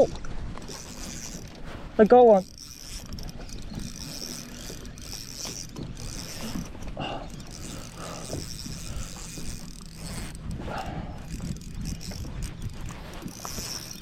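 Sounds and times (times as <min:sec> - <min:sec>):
fishing reel gears whirring: 0:00.6 - 0:14.0.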